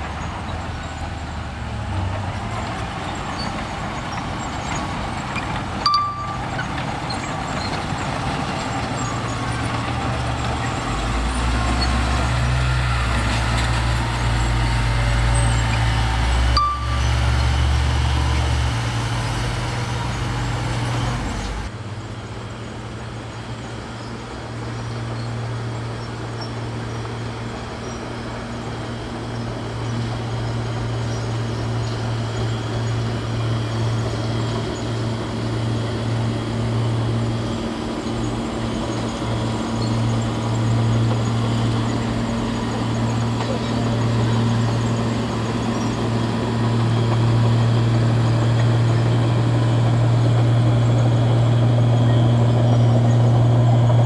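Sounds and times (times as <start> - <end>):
bulldozer diesel engine rumbling: 0.0 - 54.0.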